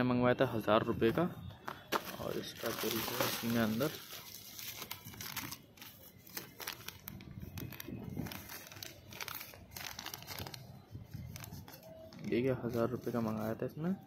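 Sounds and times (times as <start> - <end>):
paper and plastic crinkling: 1.0 - 14.0.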